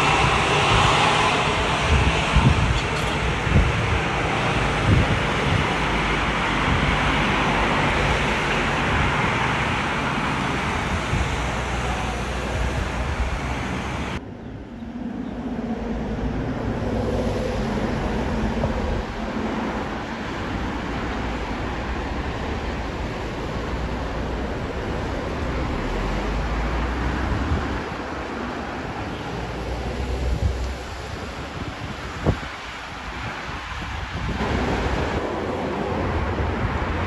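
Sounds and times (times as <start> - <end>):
aircraft engine roar: 0.0 - 37.0
wind on microphone: 0.0 - 37.0.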